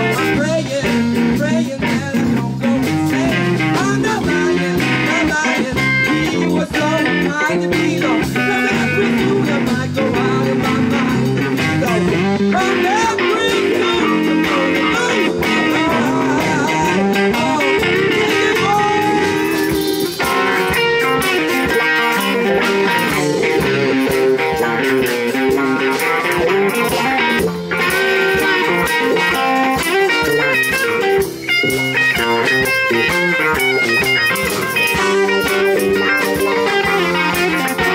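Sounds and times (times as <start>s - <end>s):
electric guitar lead lines: 0.0s - 37.9s
live band playing blues: 0.0s - 37.9s.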